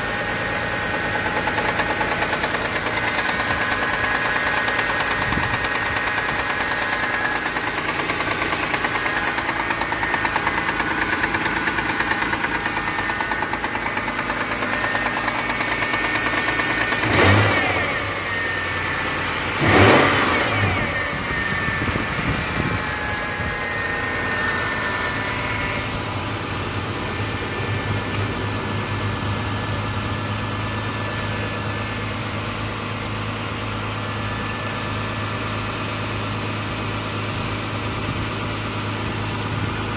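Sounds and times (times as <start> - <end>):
car engine knocking and revving: 0.0 - 39.9.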